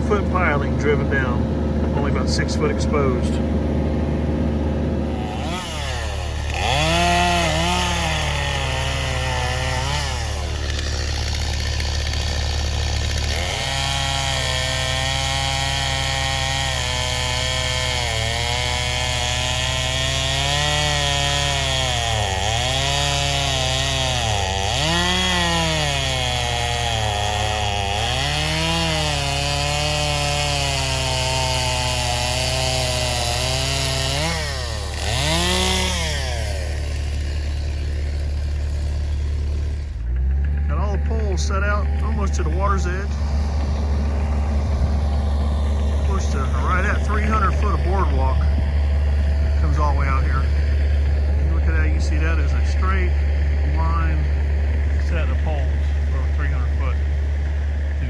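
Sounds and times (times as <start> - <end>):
vibratory pile hammer buzzing: 0.0 - 58.0.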